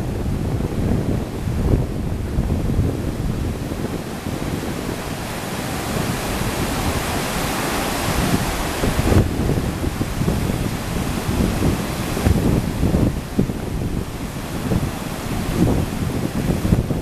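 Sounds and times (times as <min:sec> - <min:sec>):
churning whitewater rushing: 0:00.0 - 0:17.0
wind buffeting microphone: 0:00.0 - 0:17.0.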